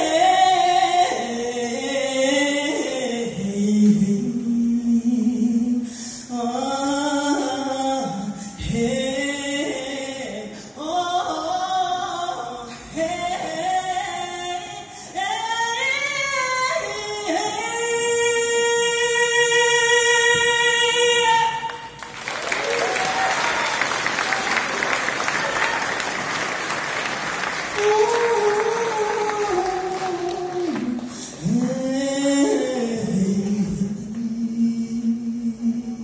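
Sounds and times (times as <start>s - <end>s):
woman singing unaccompanied: 0.0s - 21.9s, 27.7s - 36.0s.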